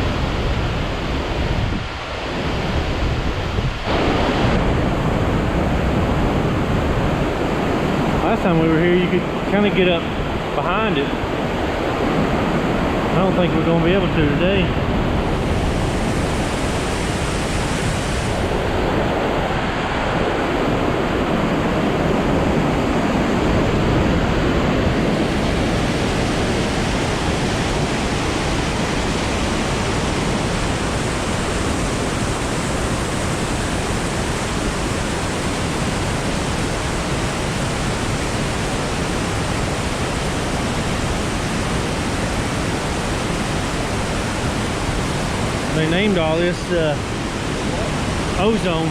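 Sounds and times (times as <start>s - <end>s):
waterfall rushing and crashing: 0.0s - 48.9s.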